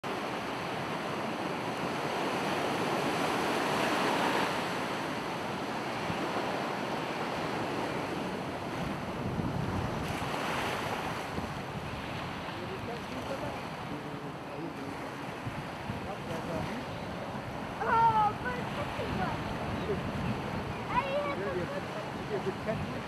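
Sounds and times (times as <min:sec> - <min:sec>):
ocean surf breaking: 0:00.0 - 0:23.0
wind buffeting microphone: 0:00.3 - 0:23.0.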